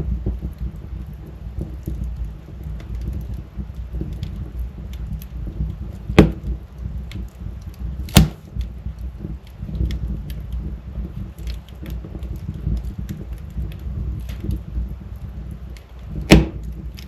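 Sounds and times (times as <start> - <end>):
loud sharp fire pops: 0.0 - 17.0
wood fire crackling: 0.0 - 17.0.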